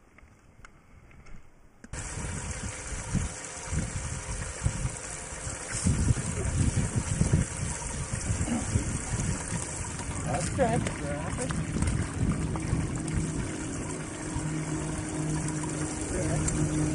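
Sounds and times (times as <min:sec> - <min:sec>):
wind buffeting microphone: 0:02.0 - 0:16.9.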